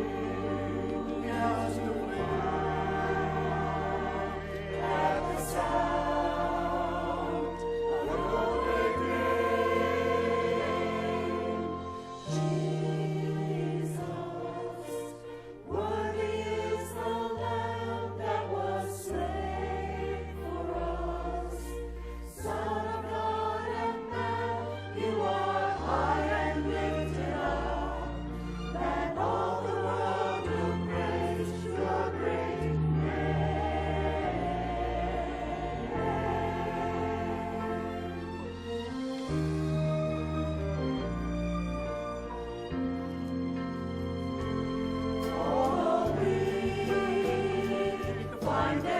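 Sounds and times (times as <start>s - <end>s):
choir singing a sacred piece: 0.0s - 41.0s, 42.2s - 48.9s.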